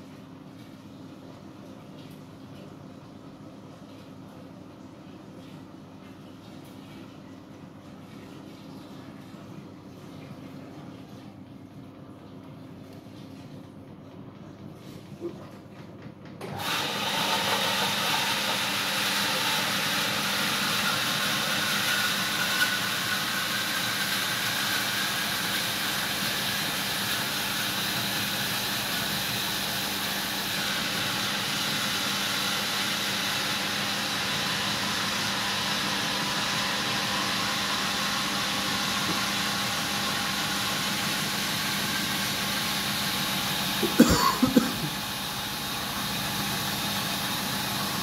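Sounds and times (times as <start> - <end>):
washing machine spinning: 0.0 - 48.0.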